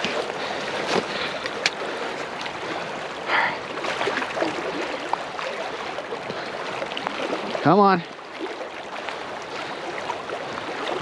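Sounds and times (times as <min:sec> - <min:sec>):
rushing river current: 0:00.0 - 0:11.0.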